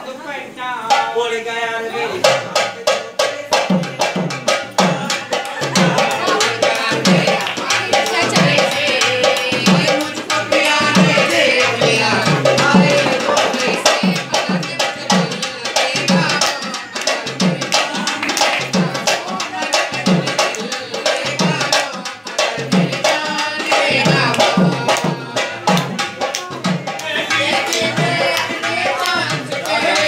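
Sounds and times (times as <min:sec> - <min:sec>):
sharp drum strokes: 0:02.0 - 0:30.0
dhol drum bass thumps: 0:02.2 - 0:30.0.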